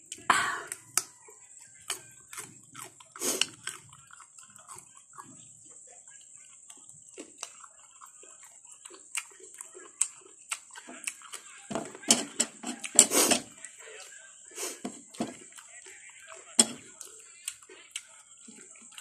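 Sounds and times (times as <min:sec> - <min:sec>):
chewing and wet lip-smacking: 0:00.0 - 0:19.0.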